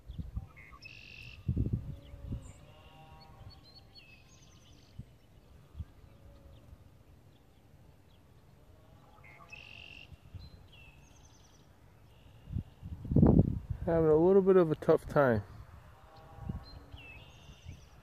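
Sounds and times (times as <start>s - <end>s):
faint songbird singing: 0.0s - 14.7s, 15.4s - 18.0s.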